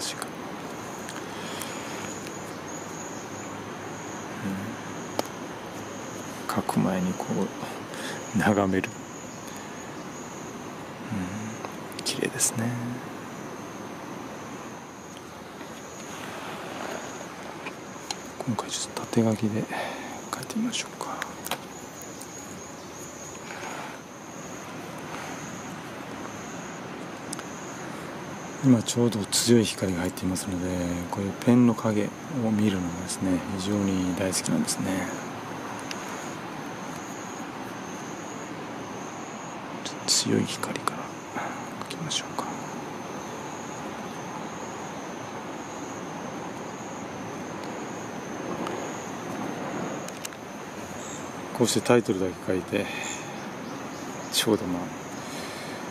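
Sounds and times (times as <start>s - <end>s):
distant cicadas buzzing: 0.0s - 55.9s
outdoor background noise: 0.0s - 55.9s.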